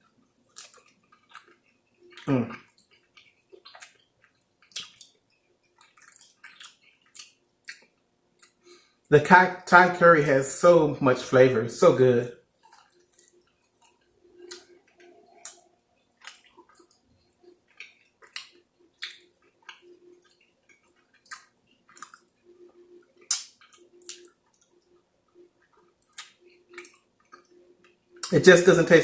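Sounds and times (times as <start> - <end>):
chewing and lip-smacking: 0.0 - 9.0, 12.5 - 28.4.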